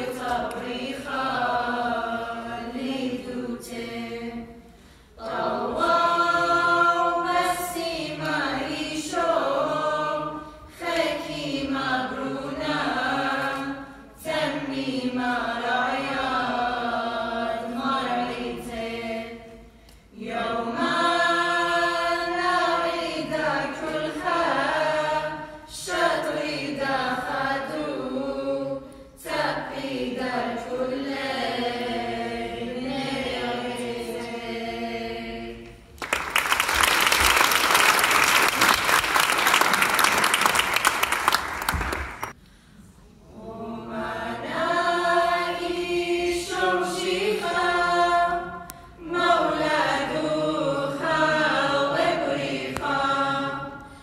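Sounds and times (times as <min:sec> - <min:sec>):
choir singing a hymn unaccompanied: 0:00.0 - 0:35.9, 0:43.0 - 0:54.0.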